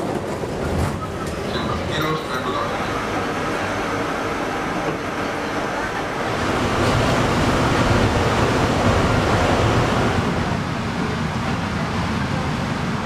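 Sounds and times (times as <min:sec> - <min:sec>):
metro train rumbling: 0:00.0 - 0:13.0.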